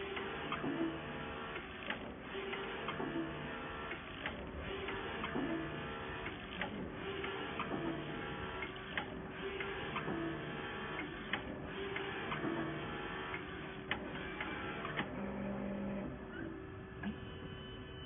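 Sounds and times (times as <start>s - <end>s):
printer motor hum: 0.0s - 18.0s.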